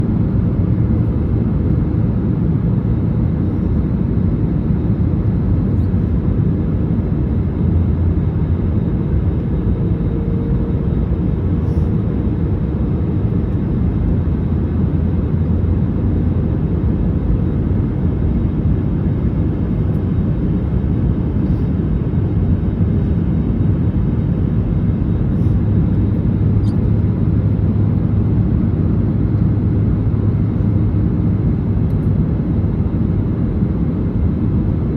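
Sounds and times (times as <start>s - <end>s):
airplane cabin roar: 0.0s - 34.9s.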